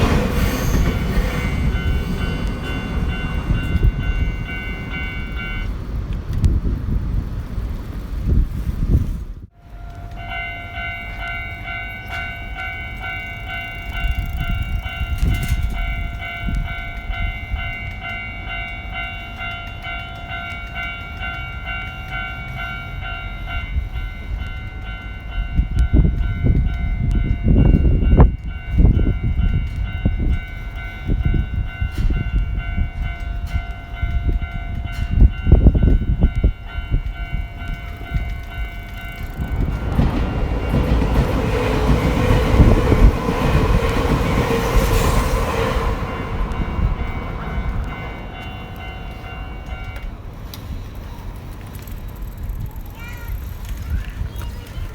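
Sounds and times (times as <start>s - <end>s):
level-crossing warning bell: 0.0s - 6.2s, 9.5s - 53.4s
train rumble and wheel clatter: 0.0s - 54.9s.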